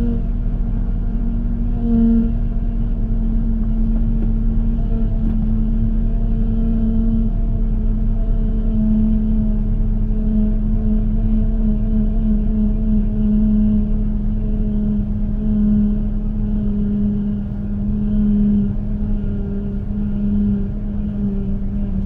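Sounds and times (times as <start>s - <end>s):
car engine idling: 0.0s - 22.0s
steady hum: 0.0s - 22.0s.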